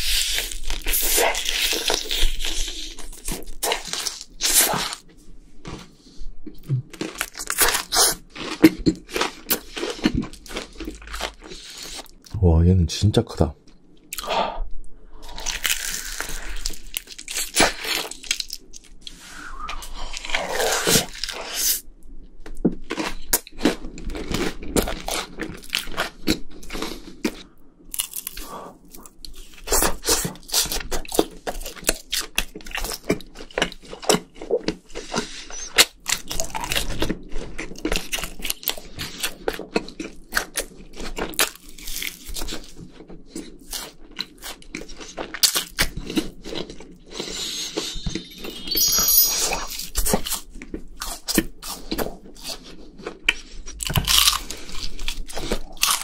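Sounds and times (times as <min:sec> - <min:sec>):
crunching crispy fried food: 0:00.0 - 0:05.1, 0:05.7 - 0:12.3, 0:15.2 - 0:21.9, 0:22.8 - 0:48.4, 0:50.0 - 0:56.0.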